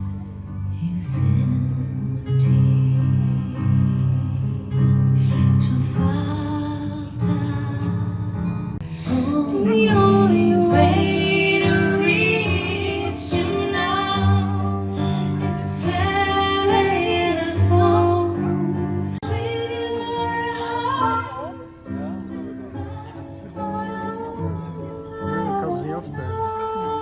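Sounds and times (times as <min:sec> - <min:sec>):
instrumental backing music: 0:00.0 - 0:27.0
woman singing: 0:00.7 - 0:22.1, 0:22.8 - 0:27.0.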